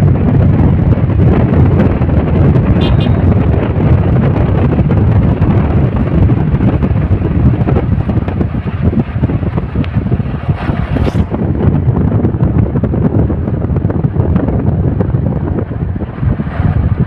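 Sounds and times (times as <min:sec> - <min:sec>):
low road rumble: 0:00.0 - 0:17.0
wind buffeting microphone: 0:00.0 - 0:17.0.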